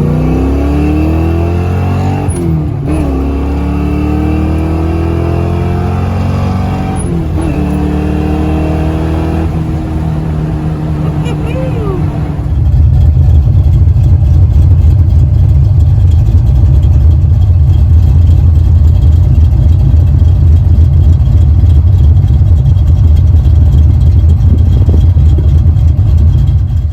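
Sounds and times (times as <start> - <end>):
car engine deep rumble: 0.0 - 26.9.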